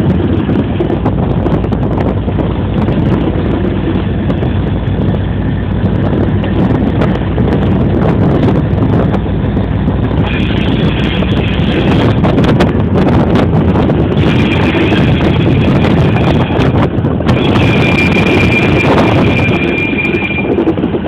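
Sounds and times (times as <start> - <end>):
freight train rumble: 0.0 - 21.0
wind rushing over microphone: 0.0 - 21.0.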